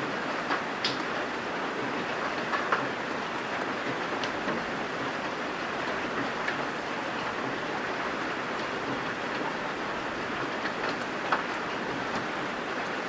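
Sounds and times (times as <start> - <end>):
heavy rain pouring: 0.1 - 13.0.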